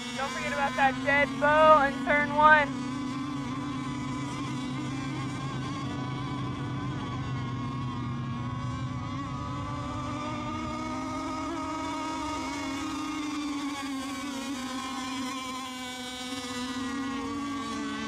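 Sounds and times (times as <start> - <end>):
racing boat motors whining: 0.0 - 18.0.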